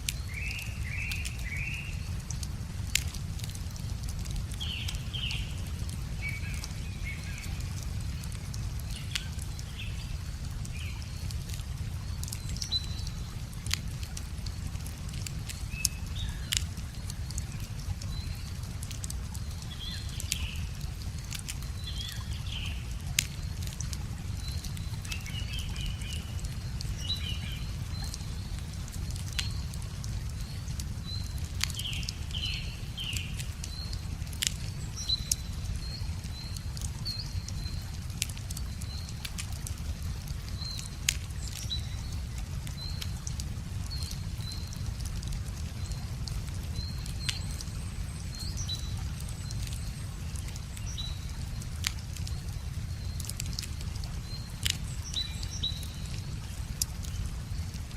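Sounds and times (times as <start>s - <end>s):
small birds chirping: 0.0s - 57.9s
wood fire crackling: 0.0s - 57.9s.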